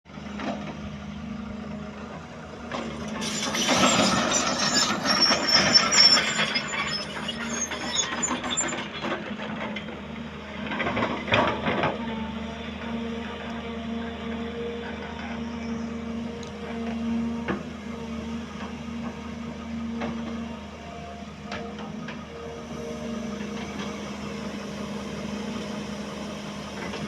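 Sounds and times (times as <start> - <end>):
heavy machine engine running: 0.1 - 27.0
harsh machine working noise: 0.2 - 27.0.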